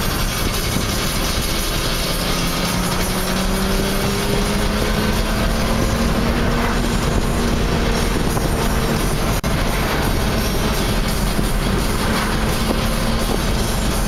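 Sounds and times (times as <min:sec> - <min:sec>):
car engine accelerating: 0:00.0 - 0:14.0
road and wind noise: 0:00.0 - 0:14.0.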